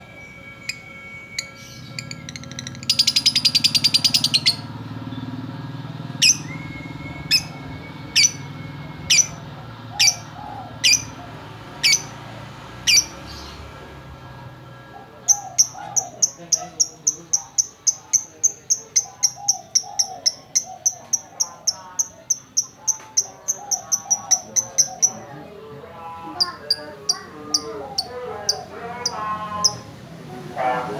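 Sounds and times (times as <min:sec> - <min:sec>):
lovebird chirping: 0:00.0 - 0:05.4, 0:06.1 - 0:13.7, 0:15.3 - 0:25.4, 0:26.3 - 0:29.9.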